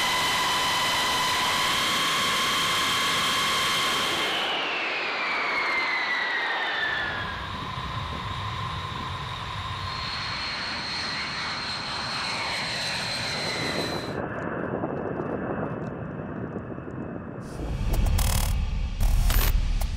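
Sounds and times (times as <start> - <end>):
high engine whine: 0.0 - 14.6, 17.2 - 19.9
jet engine roar: 0.0 - 19.9.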